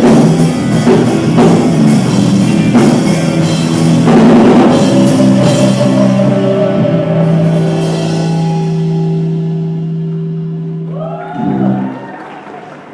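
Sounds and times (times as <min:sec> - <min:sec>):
distorted rock band chord: 0:00.0 - 0:10.9.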